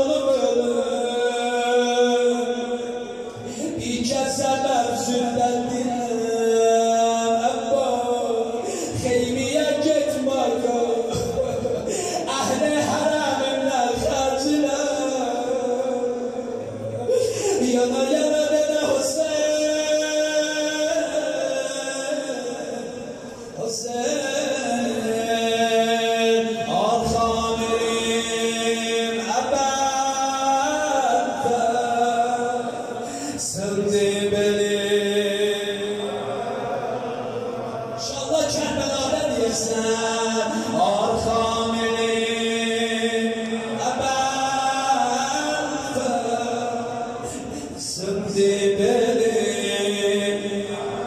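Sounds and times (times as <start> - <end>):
man chanting over loudspeakers: 0.0 - 51.0.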